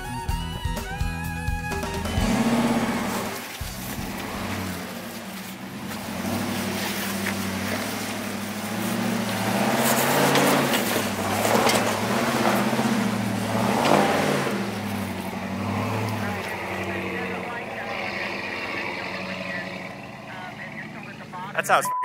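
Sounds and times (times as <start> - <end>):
truck engine revving: 0.0 - 21.8
rock and dirt crunching under tyres: 1.9 - 21.5.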